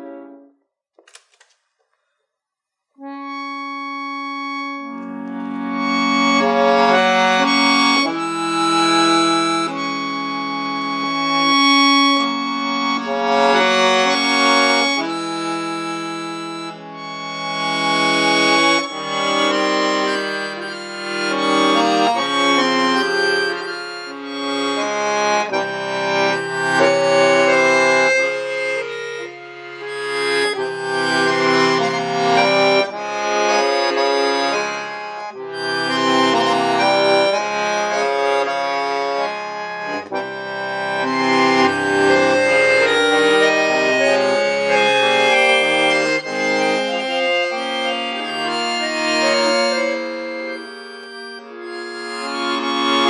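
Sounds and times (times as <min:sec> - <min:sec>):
accordion playing chords: 0:00.0 - 0:00.5, 0:03.0 - 0:53.0.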